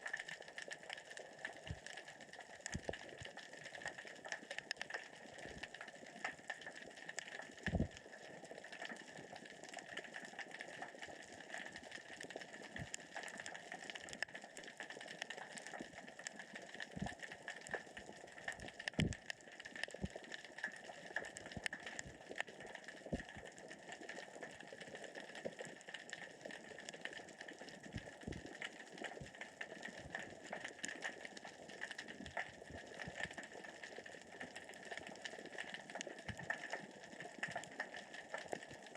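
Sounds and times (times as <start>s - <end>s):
underwater rocks rolling crackle: 0.0s - 38.9s.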